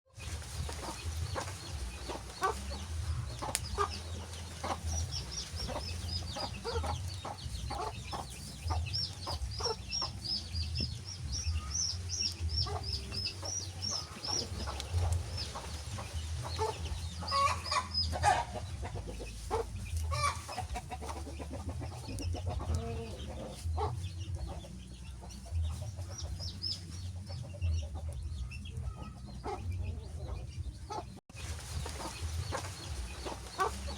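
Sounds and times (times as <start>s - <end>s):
birds chirping: 0.1s - 33.9s
steady low rumble: 0.2s - 33.9s.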